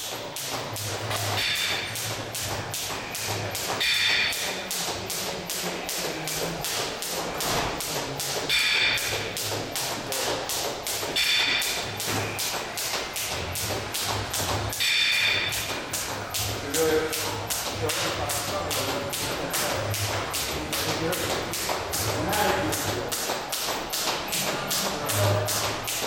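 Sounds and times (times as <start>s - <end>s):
jump rope slapping rubber floor: 0.0s - 26.0s.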